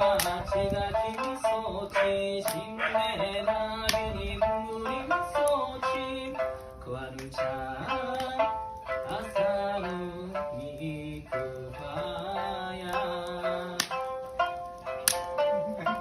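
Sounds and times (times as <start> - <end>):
plucked lute: 0.0 - 16.0.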